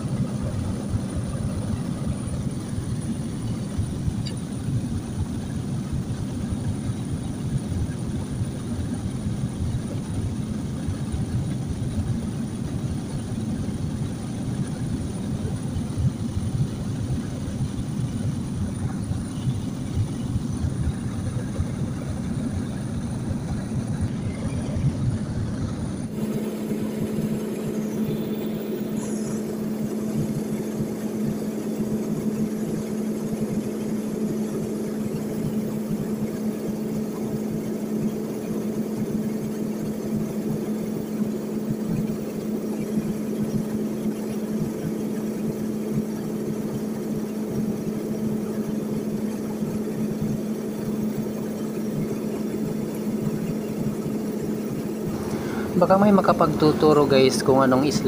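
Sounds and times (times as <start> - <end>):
propeller plane engine drone: 0.0 - 58.0
steady low hum: 0.0 - 58.0.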